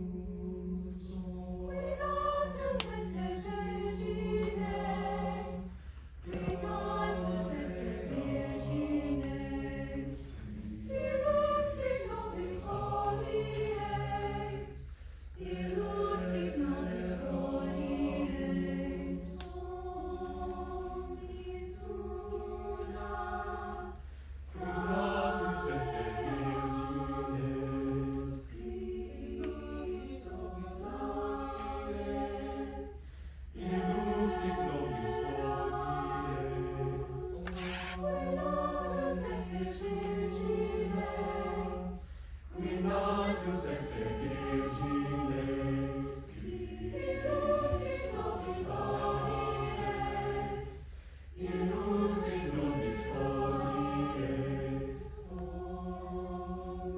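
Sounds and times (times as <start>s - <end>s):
choir singing sustained chords: 0.0s - 56.9s.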